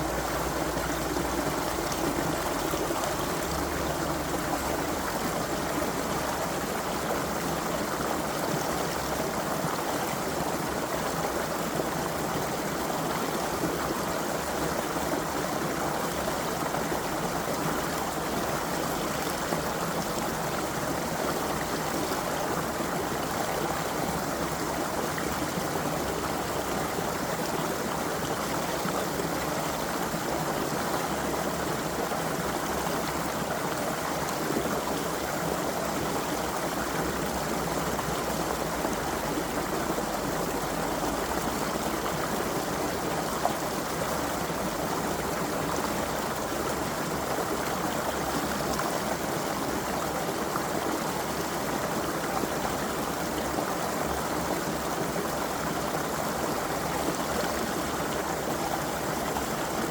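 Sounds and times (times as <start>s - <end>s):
creek babbling over stones: 0.0s - 59.9s.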